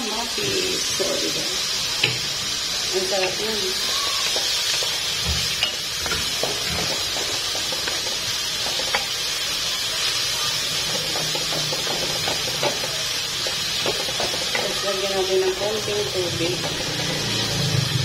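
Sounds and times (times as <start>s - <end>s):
tomatoes sizzling in a pan: 0.0s - 18.0s.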